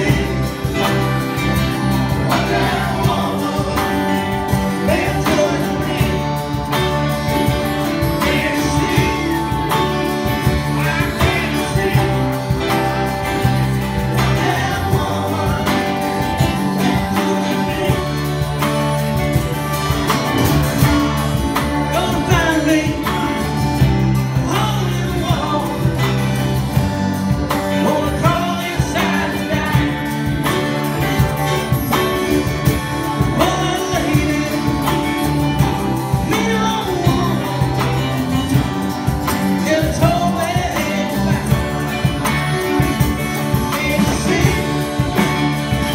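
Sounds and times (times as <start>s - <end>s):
acoustic and electric guitars: 0.0s - 45.9s
bass guitar: 0.0s - 45.9s
drum kit: 0.0s - 45.9s
keyboard: 0.0s - 45.9s.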